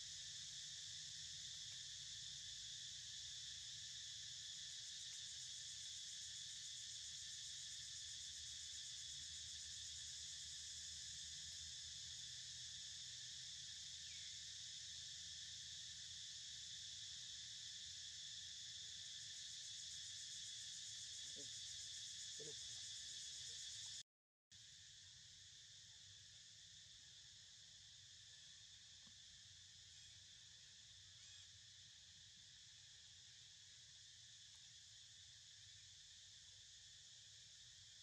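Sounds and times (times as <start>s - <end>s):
insects buzzing: 0.0s - 24.0s, 24.6s - 38.0s.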